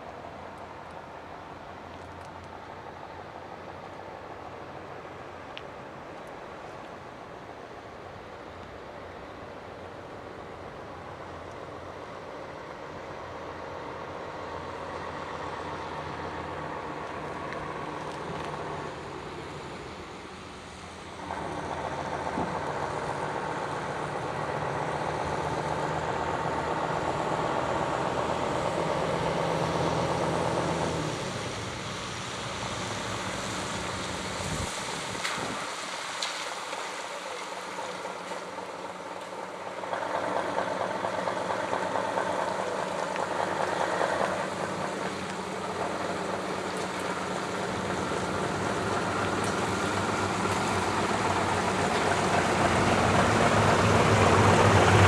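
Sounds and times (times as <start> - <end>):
diesel engine running slowly: 0.0 - 55.0.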